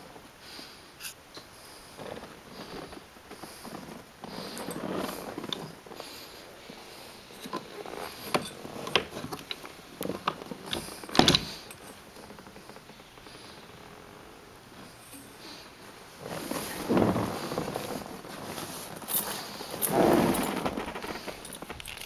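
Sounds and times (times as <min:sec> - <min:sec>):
rustle: 0:00.0 - 0:22.0.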